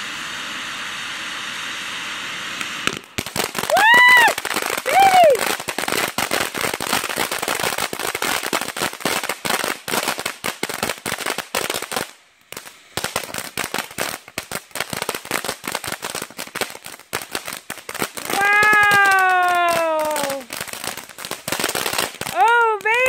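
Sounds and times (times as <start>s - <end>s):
firework crackling pops: 0.0s - 23.0s
firework hiss: 0.0s - 23.0s.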